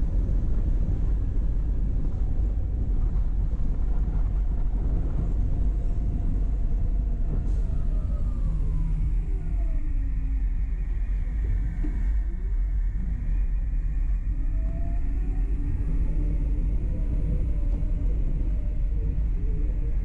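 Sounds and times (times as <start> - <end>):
car engine and road rumble: 0.0 - 20.0
faint engine tone: 0.0 - 20.0.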